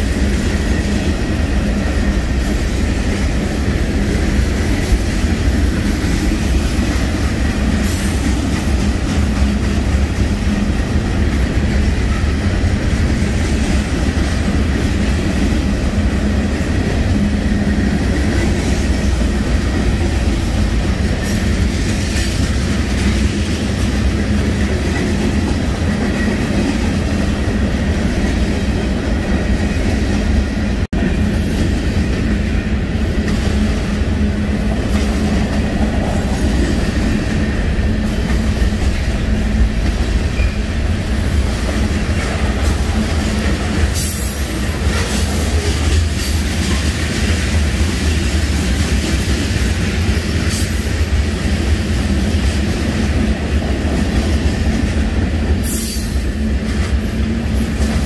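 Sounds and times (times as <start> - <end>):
steel wheels rumbling over rails: 0.0 - 58.0.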